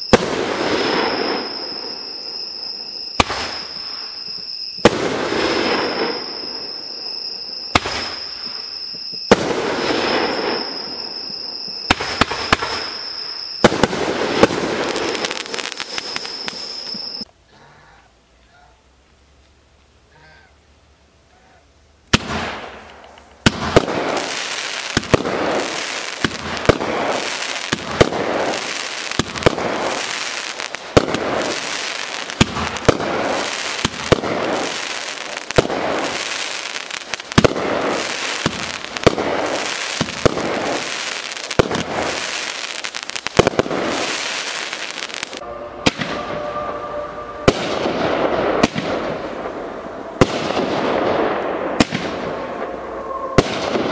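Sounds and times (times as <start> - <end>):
firework crackle: 0.0 - 17.3, 22.1 - 53.9
firework shots and aerial bursts: 0.0 - 17.3, 22.1 - 53.9.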